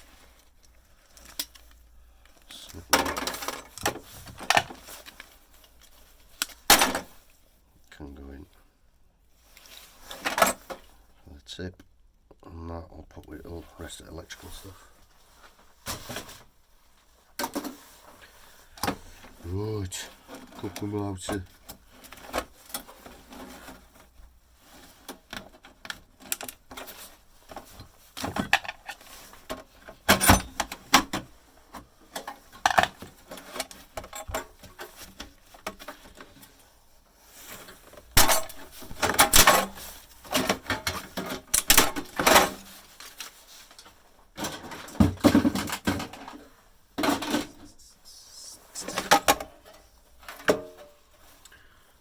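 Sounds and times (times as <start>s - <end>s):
plastic and metal parts clattering: 0.0s - 7.4s, 9.5s - 11.0s, 13.8s - 47.8s, 48.8s - 51.6s.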